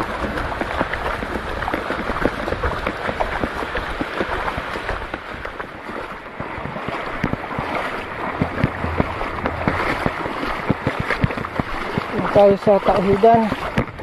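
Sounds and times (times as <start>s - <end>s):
shallow water sloshing: 0.0s - 14.0s.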